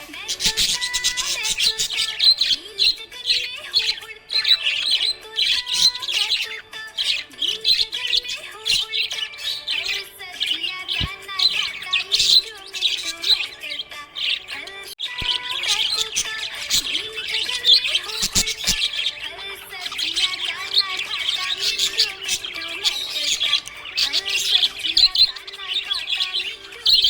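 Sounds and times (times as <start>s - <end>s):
budgerigar chirping and warbling: 0.0s - 27.0s.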